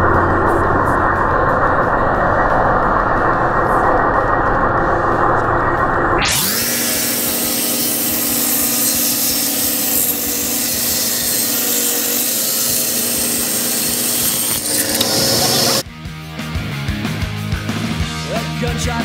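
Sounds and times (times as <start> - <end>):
table saw cutting wood: 0.0 - 15.8.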